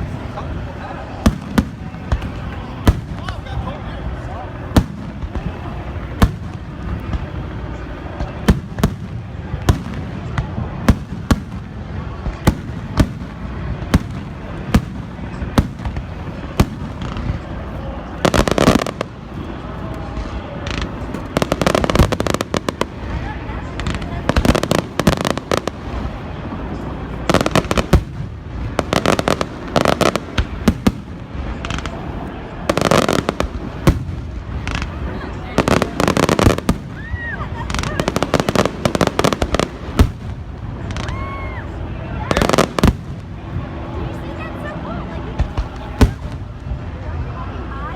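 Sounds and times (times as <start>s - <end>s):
firework bangs: 0.0s - 44.1s, 45.3s - 47.3s
steady low rumble: 0.0s - 47.9s.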